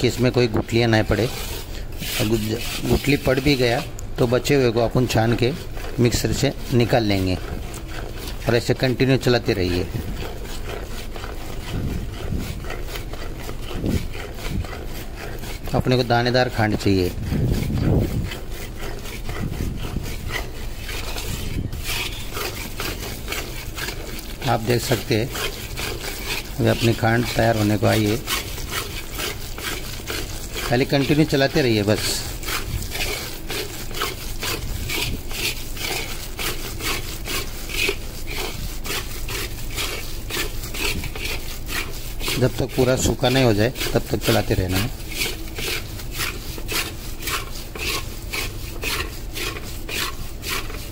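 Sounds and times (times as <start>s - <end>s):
metal spatula scraping metal pan: 0.0s - 50.9s.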